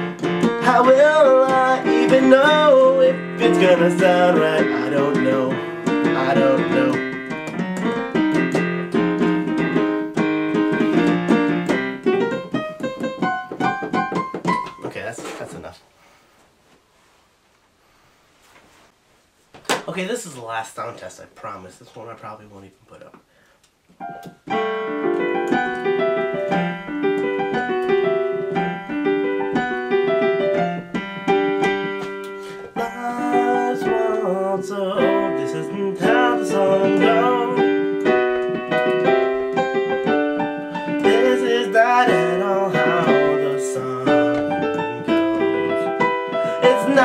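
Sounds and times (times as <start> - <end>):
electric piano chords: 0.0 - 14.9, 24.0 - 47.0.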